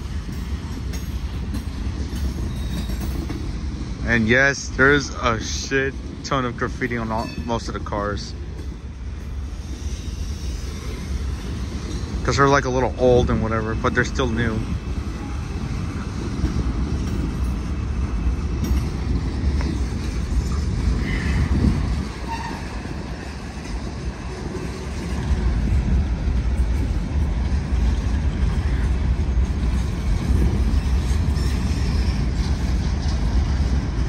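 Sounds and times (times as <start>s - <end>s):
freight train wheels on rails: 0.0s - 34.0s.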